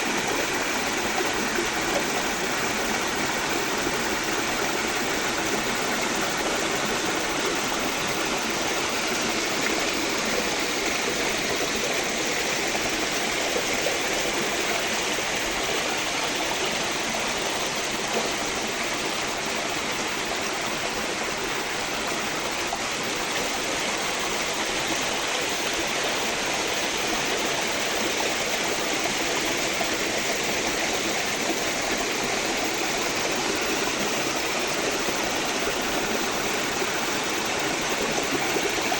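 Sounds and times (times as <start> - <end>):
stream rushing and splashing: 0.0 - 38.9.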